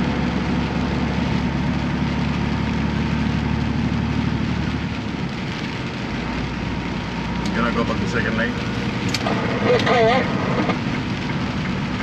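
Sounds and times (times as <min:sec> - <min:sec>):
road noise: 0:00.0 - 0:12.0
truck diesel engine droning: 0:00.0 - 0:12.0.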